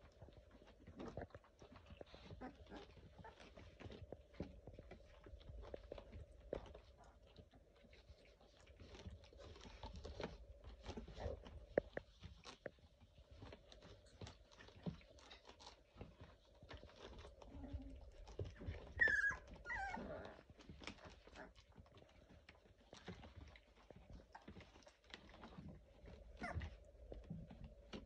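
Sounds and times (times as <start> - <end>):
puppies scrabbling on a mat: 0.0 - 28.0
puppy whining: 0.0 - 28.0.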